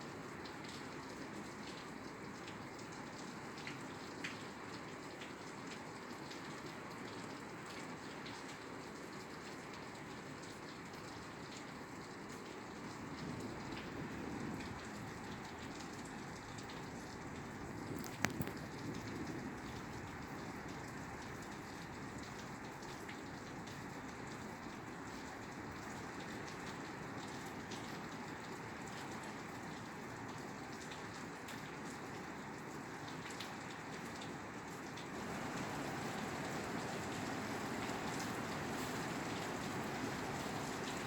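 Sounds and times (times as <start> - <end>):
rain falling on a roof: 0.0 - 41.0.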